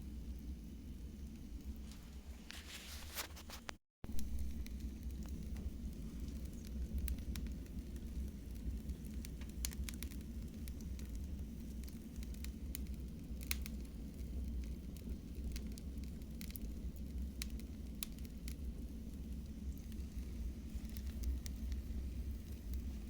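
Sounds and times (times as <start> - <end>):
low rumble of flames: 0.0 - 23.0
wood fire crackling and popping: 0.1 - 23.0.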